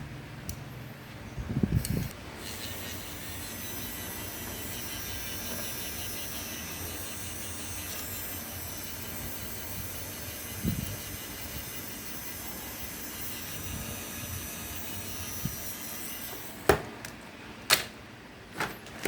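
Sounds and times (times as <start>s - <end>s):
electric fan motor whirring: 0.0s - 17.2s.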